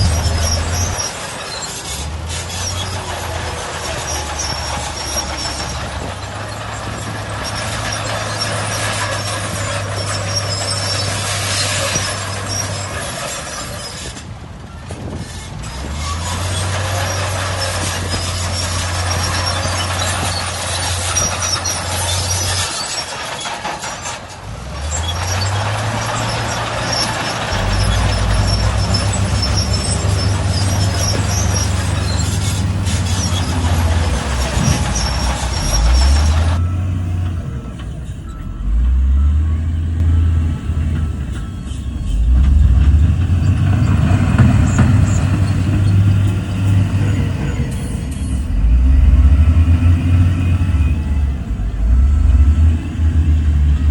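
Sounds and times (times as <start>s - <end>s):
heavy diesel machinery engines: 0.0s - 53.9s.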